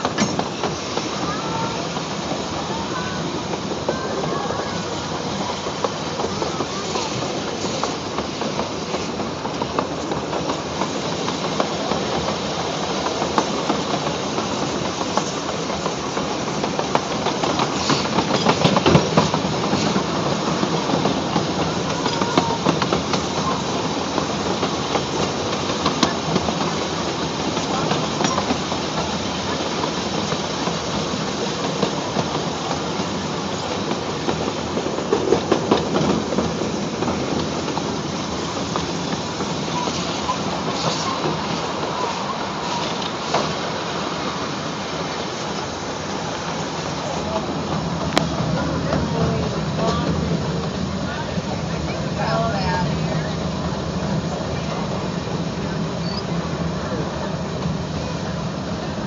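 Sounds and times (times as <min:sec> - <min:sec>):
steam locomotive hiss: 0:00.0 - 0:59.0
train wheels clattering on track: 0:00.0 - 0:59.0.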